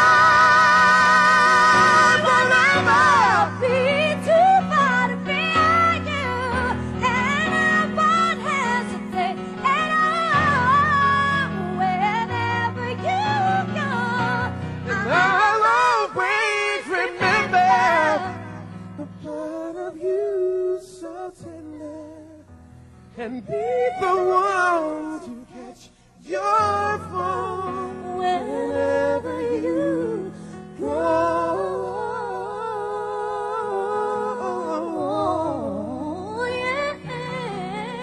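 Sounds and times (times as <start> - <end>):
woman and man singing duet: 0.0 - 22.5, 23.2 - 38.0.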